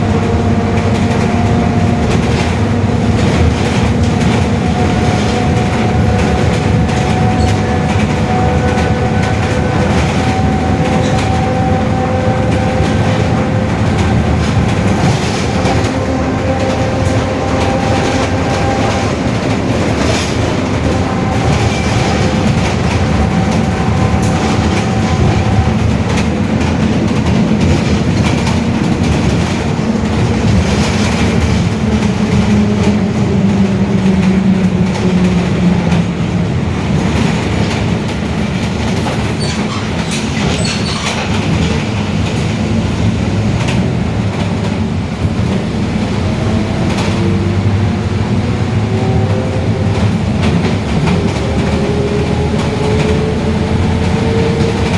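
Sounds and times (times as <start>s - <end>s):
bus differential whine: 0.0s - 54.9s
running gear rumbling and rattling: 0.0s - 54.9s.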